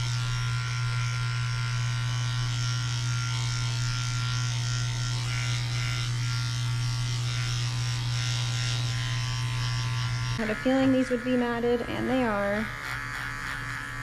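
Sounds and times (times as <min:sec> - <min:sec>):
electric clippers humming: 0:00.0 - 0:14.0.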